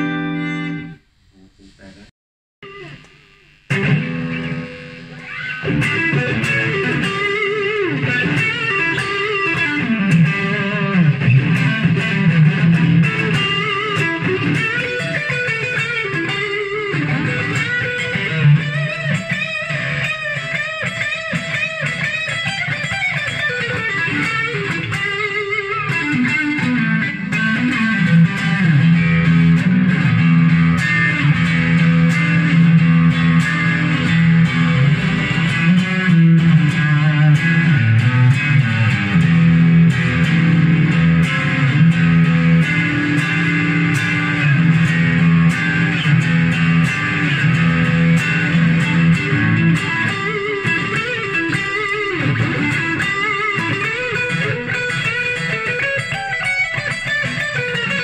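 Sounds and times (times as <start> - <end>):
electric guitar riffs: 0.0 - 58.0.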